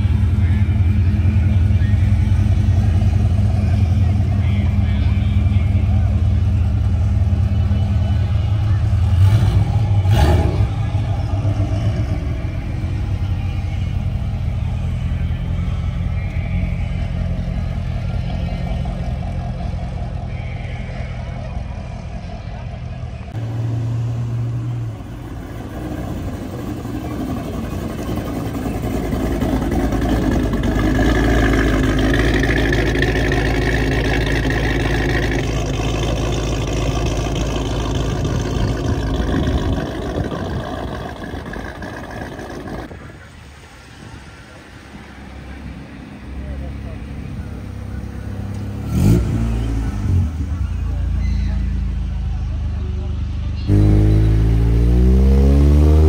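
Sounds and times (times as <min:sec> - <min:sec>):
car engine revving: 0:00.0 - 0:43.0, 0:45.4 - 0:56.0
car engine idling: 0:00.0 - 0:56.0.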